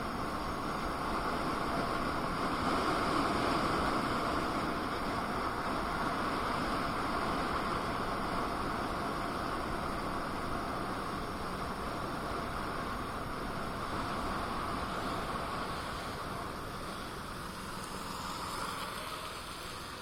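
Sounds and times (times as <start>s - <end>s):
electric unicycle wind and road noise: 0.0s - 20.0s.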